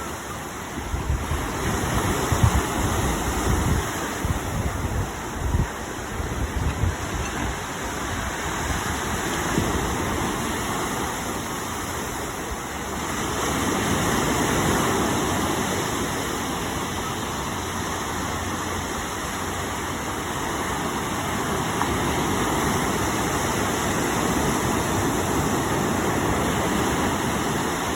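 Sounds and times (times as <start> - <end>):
water rushing: 0.0 - 27.9.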